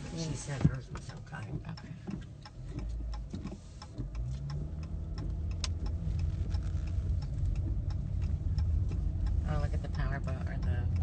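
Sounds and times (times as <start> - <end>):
car engine hum: 0.0 - 11.0
turn signal ticking: 0.0 - 11.0.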